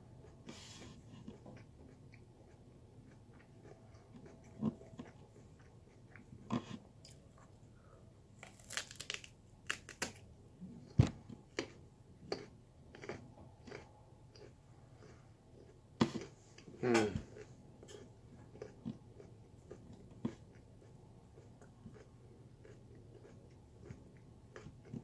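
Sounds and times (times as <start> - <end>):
person chewing raw sweet potato: 0.0 - 10.3, 11.0 - 25.0.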